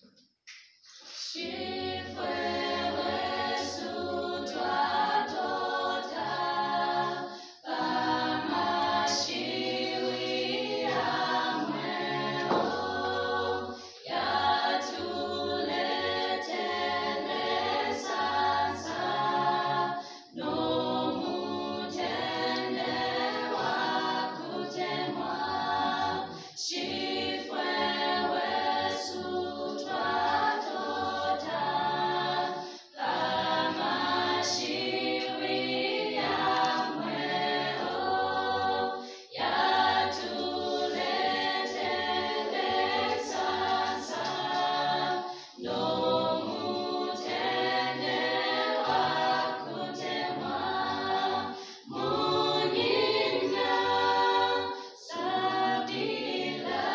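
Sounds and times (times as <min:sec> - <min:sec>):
group singing a cappella: 0:00.8 - 0:56.9.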